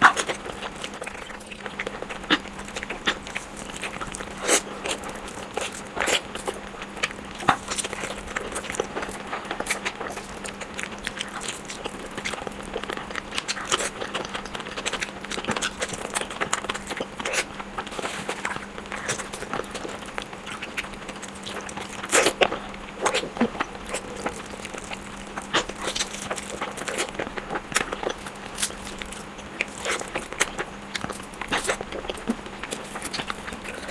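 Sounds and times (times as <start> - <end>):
chewing with wet mouth clicks: 0.0 - 33.9.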